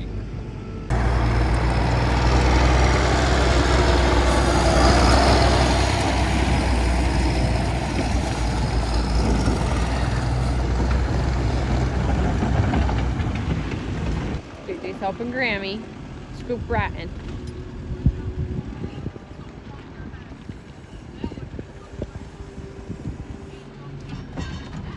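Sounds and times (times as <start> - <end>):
tractor diesel engine running: 0.0 - 24.1.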